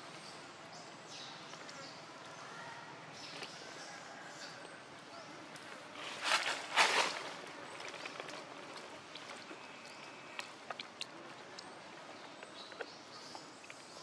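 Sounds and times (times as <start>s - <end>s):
soft outdoor hiss: 0.0s - 14.0s.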